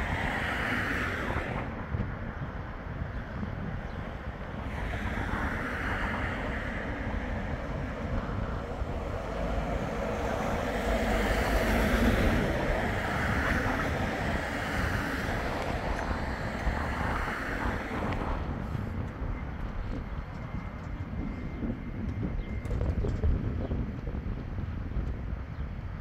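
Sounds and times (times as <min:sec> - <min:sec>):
tram approaching on track: 0:00.0 - 0:26.0
wind buffeting microphone: 0:00.0 - 0:26.0.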